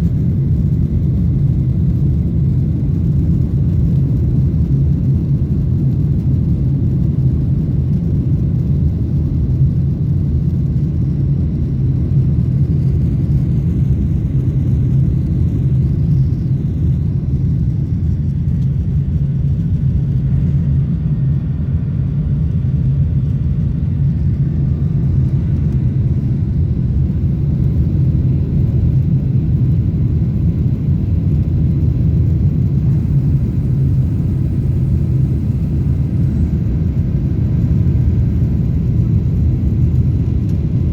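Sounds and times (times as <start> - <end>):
jet engines rumbling on takeoff: 0.0 - 40.9.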